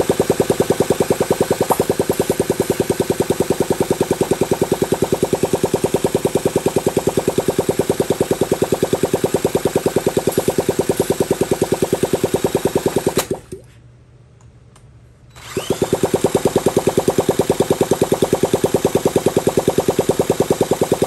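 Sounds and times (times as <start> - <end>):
small motorcycle engine chugging: 0.0 - 13.5, 15.6 - 21.0.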